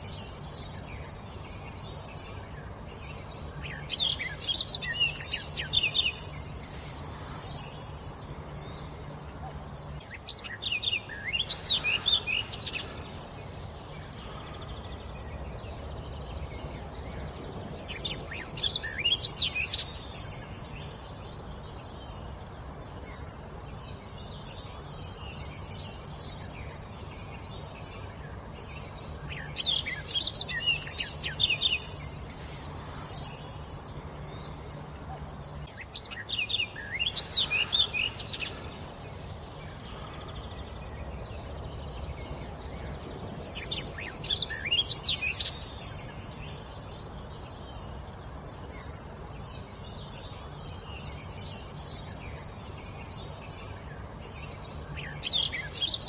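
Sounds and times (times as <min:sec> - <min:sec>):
low background noise: 0:00.0 - 0:56.0
songbird singing: 0:00.0 - 0:56.0.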